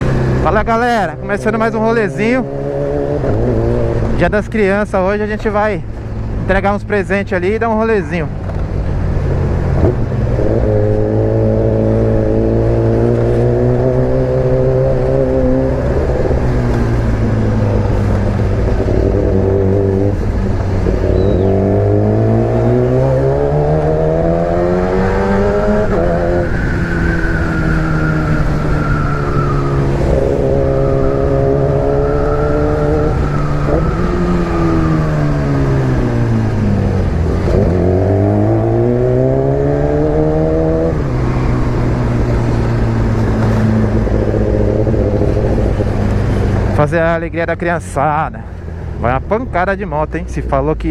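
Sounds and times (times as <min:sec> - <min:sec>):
motorcycle engine accelerating: 0:00.0 - 0:05.2, 0:08.4 - 0:50.9.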